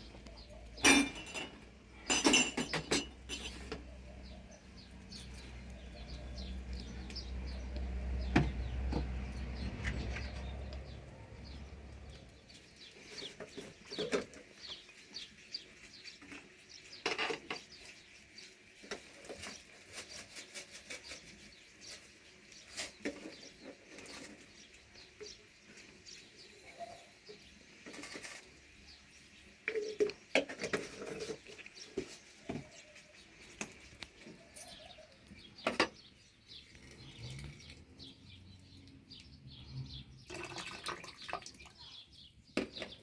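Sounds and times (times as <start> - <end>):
rustles: 0.0 - 39.3.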